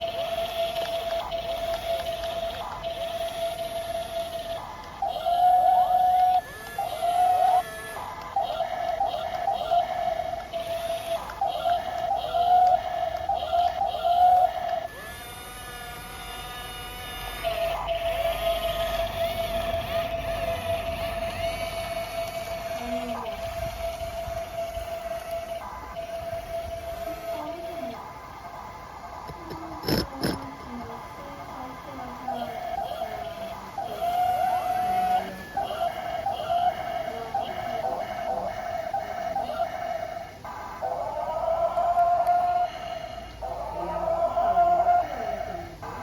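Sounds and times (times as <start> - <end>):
toy electric motor whining: 0.0 - 46.0.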